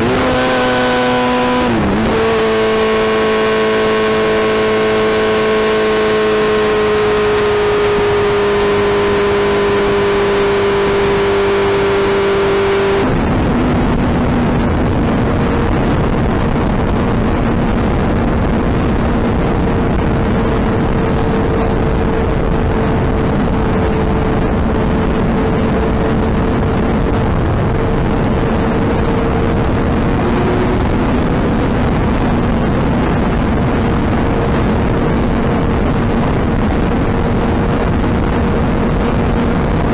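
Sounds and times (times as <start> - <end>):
motorcycle engine humming: 0.0 - 39.9
riding wind rushing: 0.0 - 39.9.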